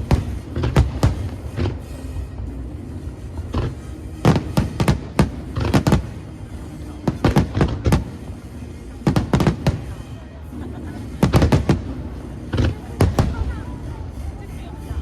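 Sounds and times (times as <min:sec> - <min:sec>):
fireworks bursting with sharp bangs: 0:00.0 - 0:13.8
low background rumble: 0:00.0 - 0:15.0.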